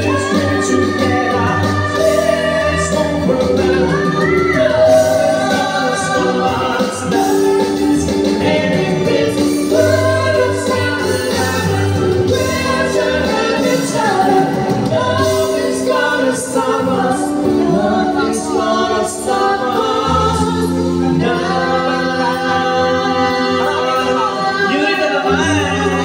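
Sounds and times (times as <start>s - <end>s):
instrumental accompaniment: 0.0s - 26.0s
woman singing into microphone: 0.0s - 26.0s.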